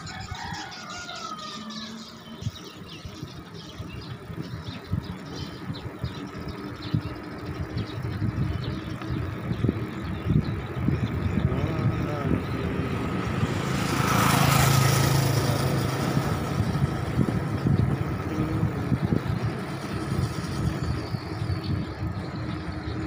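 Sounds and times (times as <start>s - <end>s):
road noise: 0.0s - 23.0s
wind buffeting microphone: 0.0s - 23.0s.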